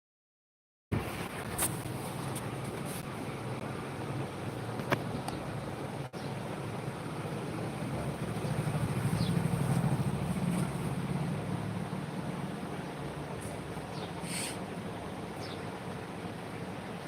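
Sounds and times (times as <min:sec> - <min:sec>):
low engine hum: 0:01.0 - 0:17.0.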